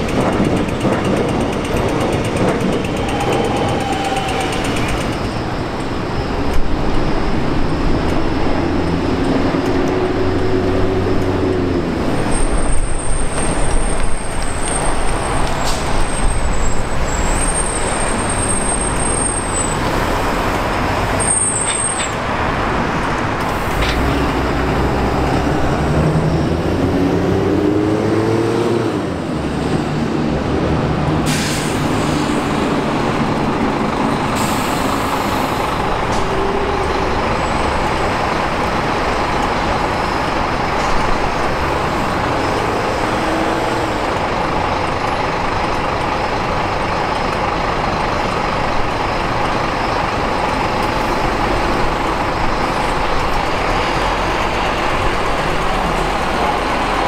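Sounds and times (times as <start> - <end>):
bus diesel engines running: 0.0 - 57.0.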